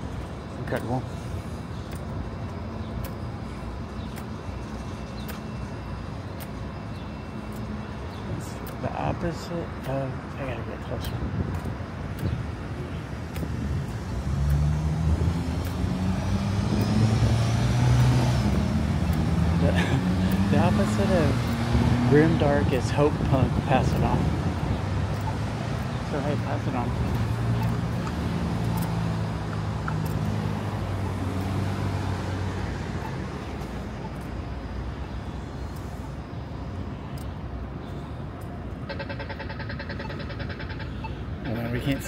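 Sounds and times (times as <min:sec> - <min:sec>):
road noise: 0:00.0 - 0:42.0
street noise: 0:00.0 - 0:42.0
vehicle engine humming: 0:00.0 - 0:42.0.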